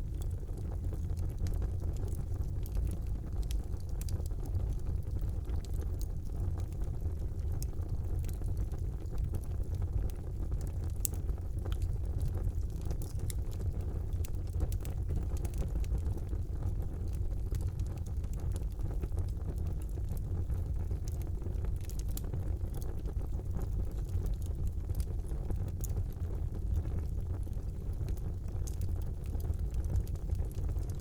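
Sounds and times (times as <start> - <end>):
fire crackling and popping: 0.0 - 31.0
fire rumbling: 0.0 - 31.0.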